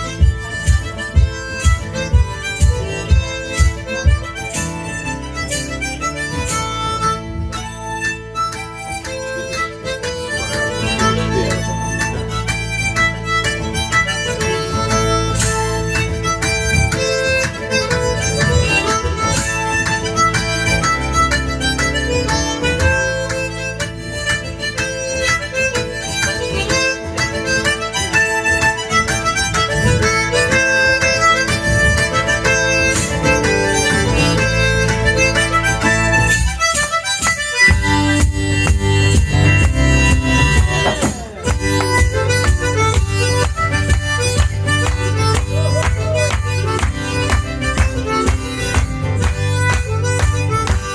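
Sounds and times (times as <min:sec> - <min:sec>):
percussive beat: 0:00.0 - 0:07.7, 0:08.5 - 0:50.9
guitar: 0:00.0 - 0:50.9
harmonica playing tune: 0:00.0 - 0:50.9.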